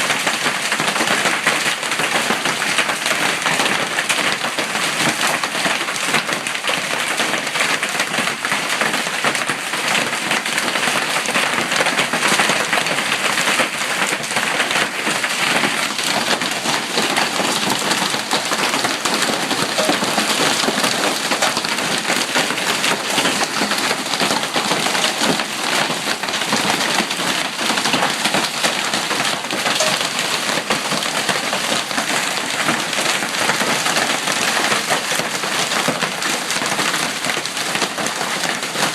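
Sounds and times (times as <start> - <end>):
hail striking the ground: 0.0 - 38.9.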